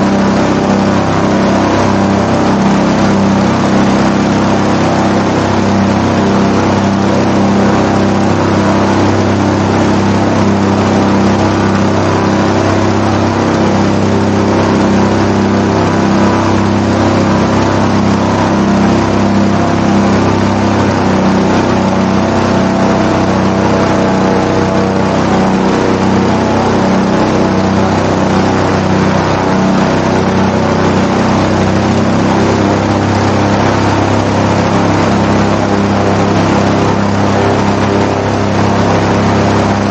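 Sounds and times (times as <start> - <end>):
airboat engine and propeller: 0.0 - 39.9.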